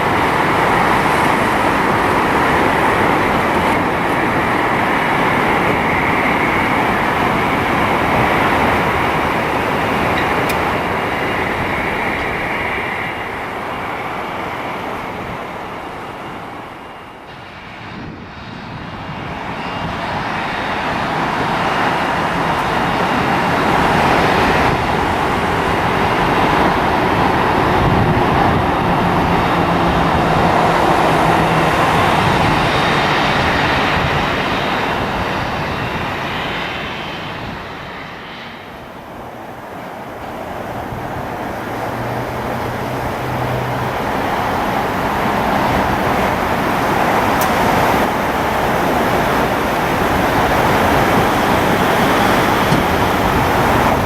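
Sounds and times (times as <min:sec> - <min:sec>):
jet engine with high whine: 0:00.0 - 0:54.0.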